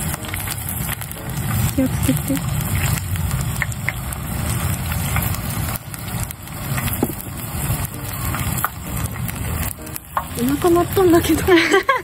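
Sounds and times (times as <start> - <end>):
low rumble: 0.0 - 11.7
fiddleheads deep-frying in oil: 0.0 - 12.0.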